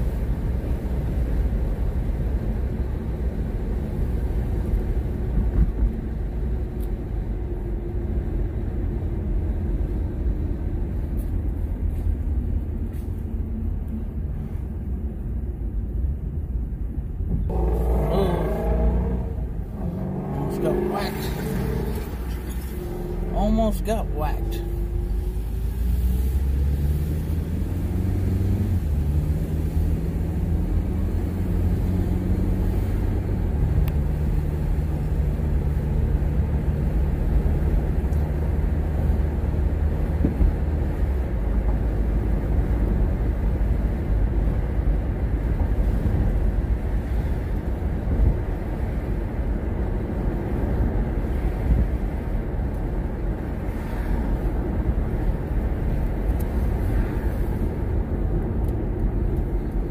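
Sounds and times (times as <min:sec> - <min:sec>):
car engine inside cabin: 0:00.0 - 0:59.9.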